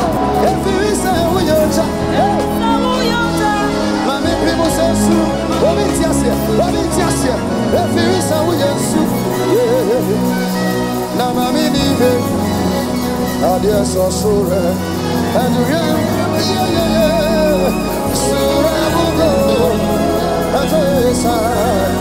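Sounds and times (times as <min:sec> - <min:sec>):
live worship band playing: 0:00.0 - 0:22.0
person singing: 0:00.0 - 0:22.0.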